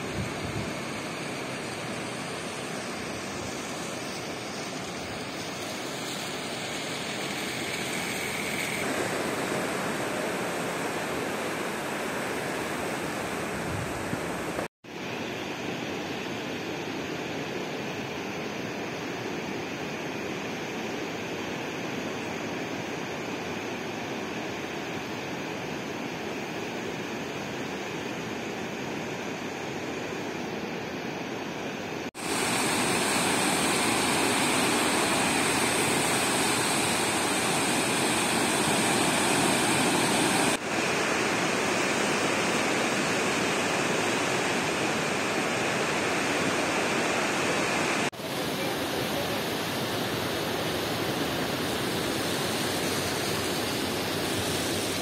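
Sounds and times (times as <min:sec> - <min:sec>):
river rushing: 0:00.0 - 0:14.7, 0:15.8 - 0:55.0.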